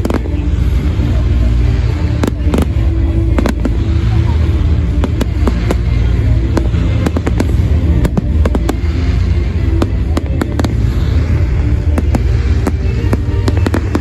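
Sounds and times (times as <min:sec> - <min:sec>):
fireworks bangs and crackles: 0:00.0 - 0:14.0
loud music with heavy bass: 0:00.0 - 0:14.0.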